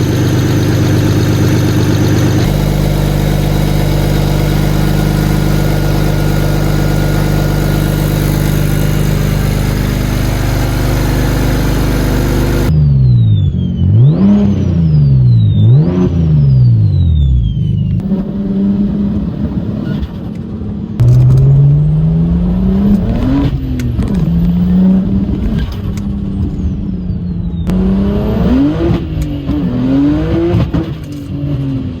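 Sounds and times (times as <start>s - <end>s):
turbo car engine accelerating: 0.0s - 32.0s.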